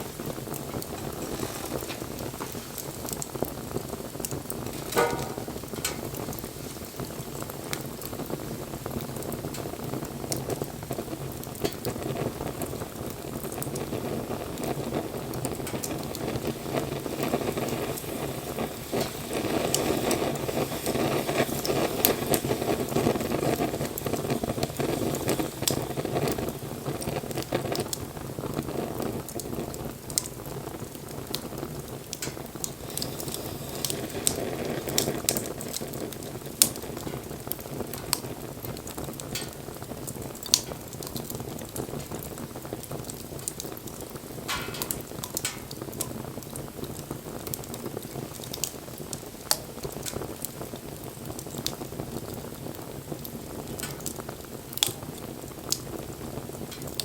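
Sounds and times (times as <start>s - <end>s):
burning wood crackling and popping: 0.0s - 57.0s
hiss of flame: 0.0s - 57.0s.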